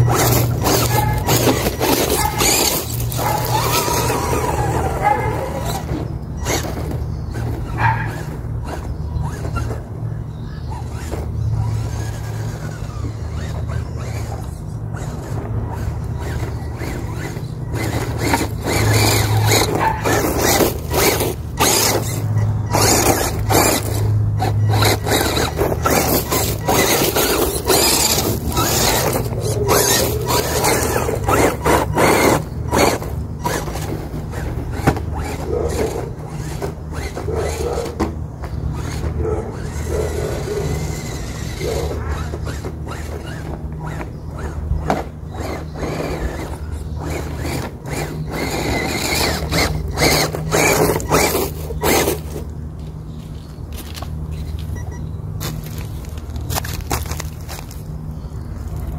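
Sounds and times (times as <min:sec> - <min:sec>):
small electric motor whine: 0:00.0 - 0:52.6
tyres crunching through dirt: 0:00.0 - 0:58.9.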